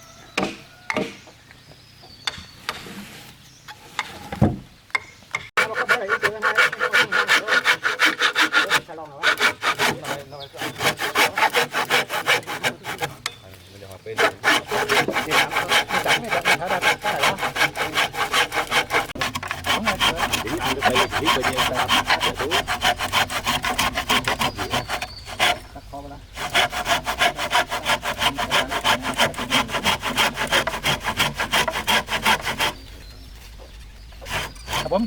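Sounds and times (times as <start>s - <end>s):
saw cutting wood: 5.6s - 35.0s.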